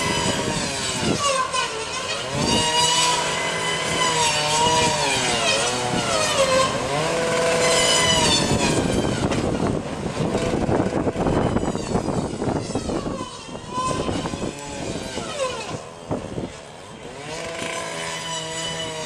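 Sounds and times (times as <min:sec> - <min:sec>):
chainsaw cutting a tree: 0:00.0 - 0:19.0.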